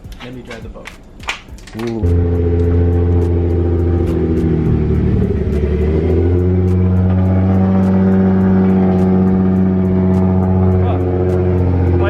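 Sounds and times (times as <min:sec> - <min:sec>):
car engine running loud: 0:01.9 - 0:12.0.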